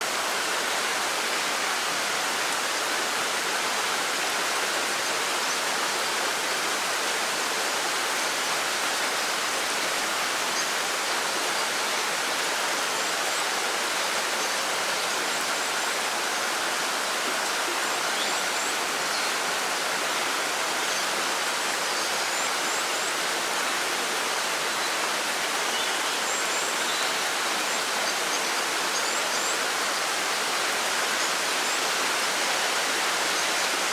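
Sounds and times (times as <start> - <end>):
rain falling: 0.0 - 33.9.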